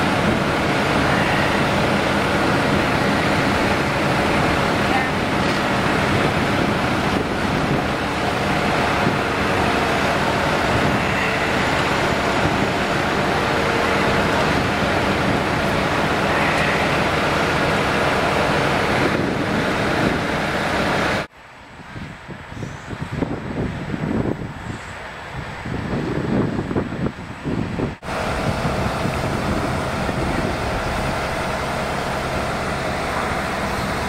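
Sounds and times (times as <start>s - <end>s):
diesel engine of crane: 0.0s - 34.0s
wind: 0.0s - 34.0s.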